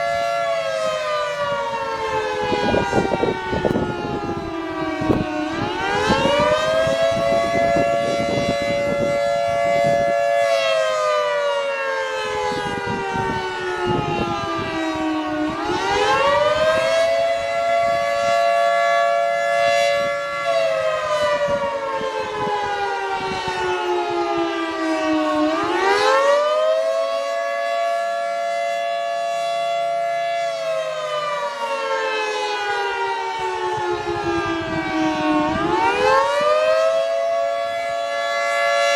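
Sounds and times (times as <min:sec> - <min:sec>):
distant fainter siren wailing: 0:00.0 - 0:38.9
warning siren wailing: 0:00.0 - 0:38.9.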